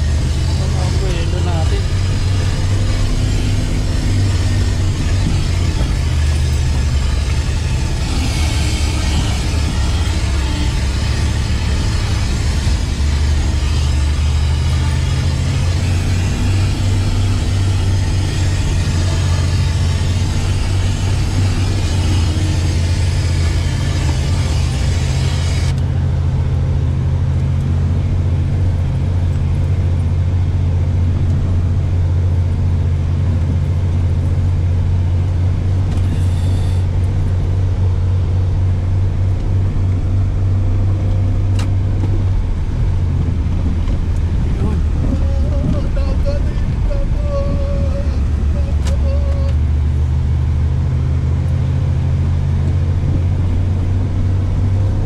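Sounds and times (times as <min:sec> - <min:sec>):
suv engine droning: 0:00.0 - 0:55.0.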